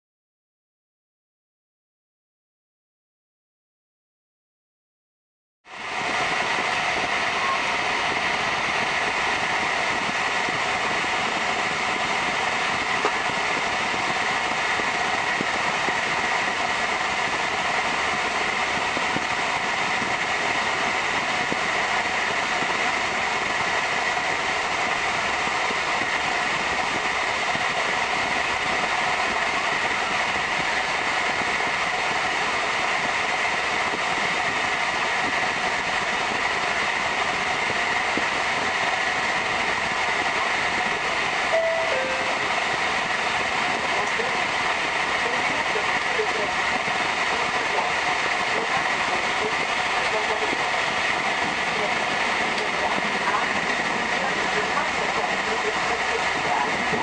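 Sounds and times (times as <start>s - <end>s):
train carriage running noise: 5.7s - 57.0s.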